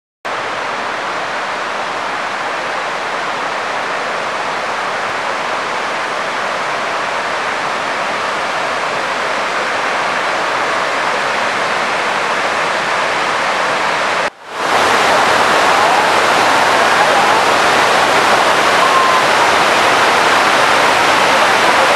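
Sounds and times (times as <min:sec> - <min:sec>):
waterfall roaring: 0:00.3 - 0:21.9.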